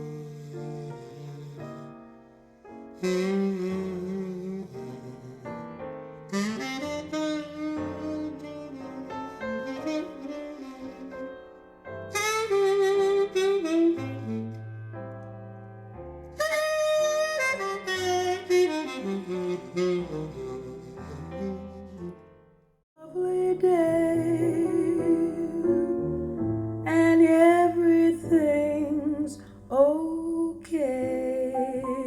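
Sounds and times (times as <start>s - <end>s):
saxophone: 0.0s - 15.3s, 16.3s - 22.4s, 23.3s - 29.2s
piano: 0.0s - 32.0s.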